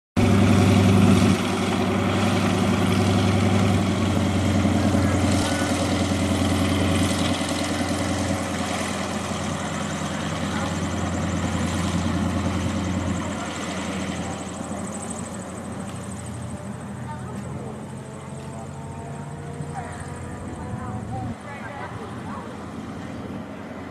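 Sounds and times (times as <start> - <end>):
propeller plane engine running: 0.2 - 23.9.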